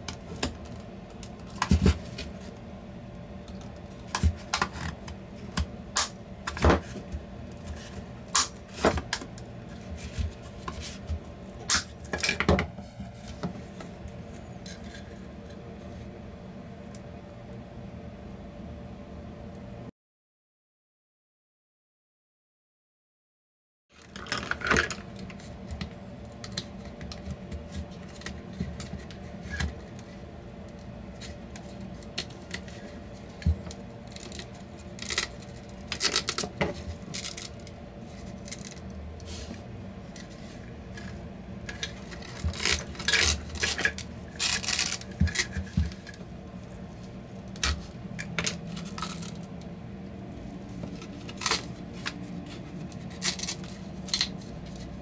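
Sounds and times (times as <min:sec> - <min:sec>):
steady low hum: 0:00.0 - 0:19.9, 0:24.0 - 0:55.0.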